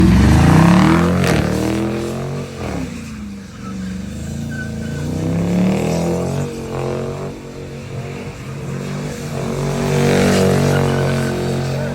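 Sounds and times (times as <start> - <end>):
car engine revving: 0.0 - 11.9.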